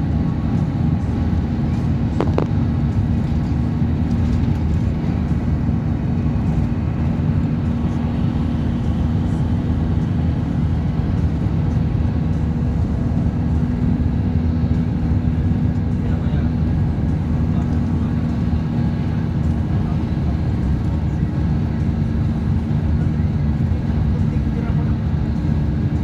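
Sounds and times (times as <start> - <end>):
bus engine and tyre noise: 0.0 - 26.0.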